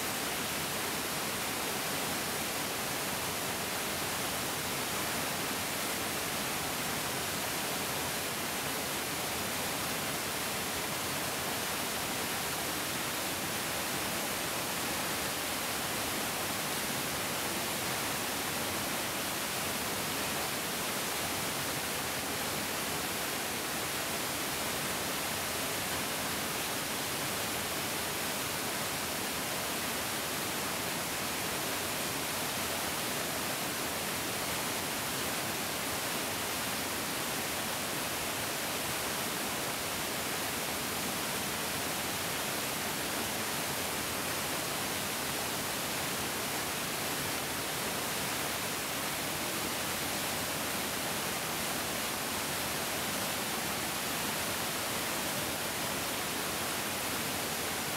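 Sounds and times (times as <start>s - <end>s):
mountain stream rushing: 0.0s - 57.9s.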